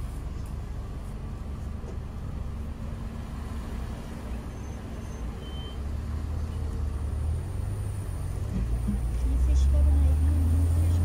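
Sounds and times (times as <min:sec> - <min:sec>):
motor vehicles rumbling: 0:00.0 - 0:11.0.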